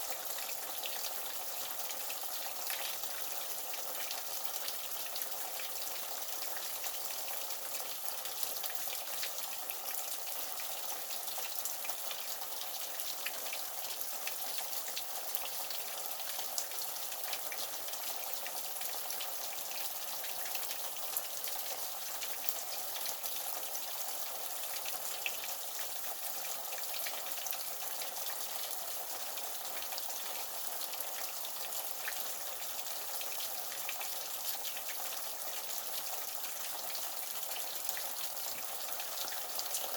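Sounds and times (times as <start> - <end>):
drip-like ticks: 0.1 - 39.9.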